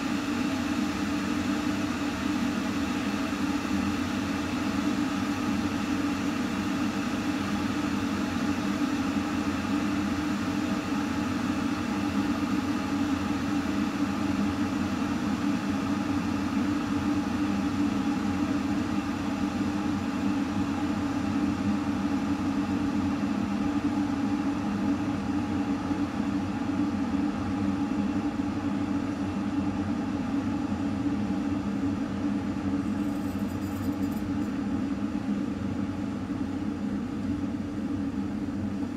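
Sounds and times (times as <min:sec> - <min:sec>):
electric kettle heating water: 0:00.0 - 0:38.9.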